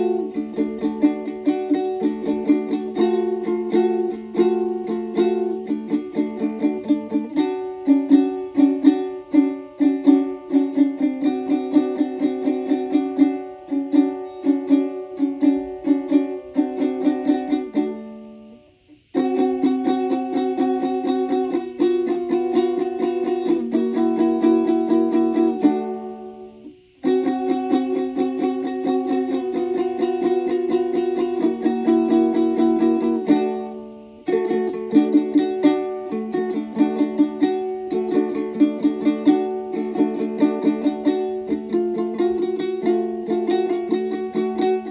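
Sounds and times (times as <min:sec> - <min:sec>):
plucked string instrument music: 0:00.0 - 0:44.9.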